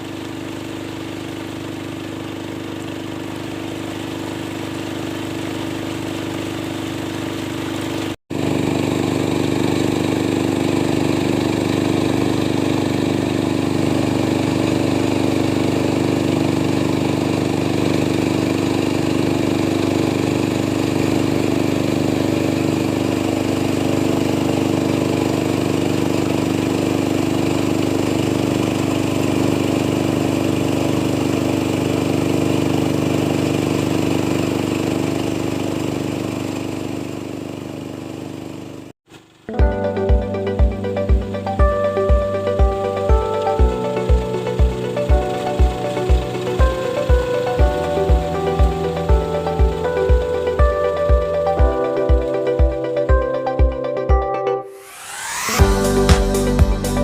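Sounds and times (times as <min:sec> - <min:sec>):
small engine running: 0:00.0 - 0:53.7, 0:54.7 - 0:57.0.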